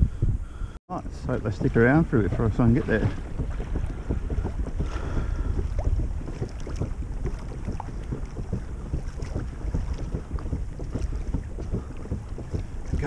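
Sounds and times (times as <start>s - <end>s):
wind buffeting microphone: 0.0s - 13.0s
waves slapping against kayak hull: 0.9s - 13.0s.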